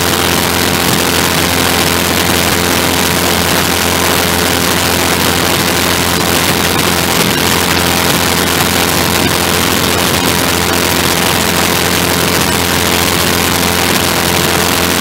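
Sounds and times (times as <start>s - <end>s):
engine hum: 0.0s - 15.0s
wind rushing across microphone: 0.0s - 15.0s.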